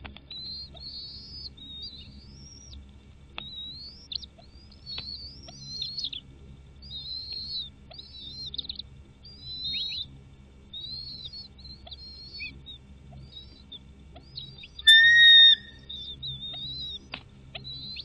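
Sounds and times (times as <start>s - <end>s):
bird chirping calls: 0.3s - 2.8s, 3.4s - 18.0s.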